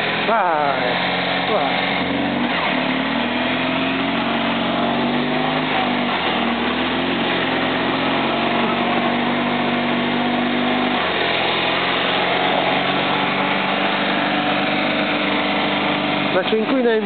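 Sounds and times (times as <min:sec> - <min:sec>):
small car engine running: 0:00.0 - 0:17.0.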